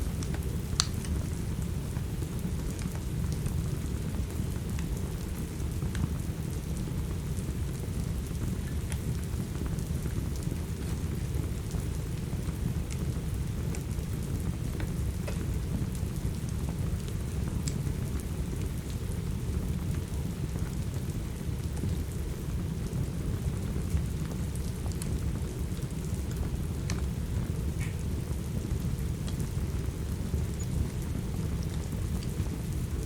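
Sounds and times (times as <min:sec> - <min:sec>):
steady rain: 0:00.0 - 0:33.0
wood fire crackling: 0:00.0 - 0:33.0.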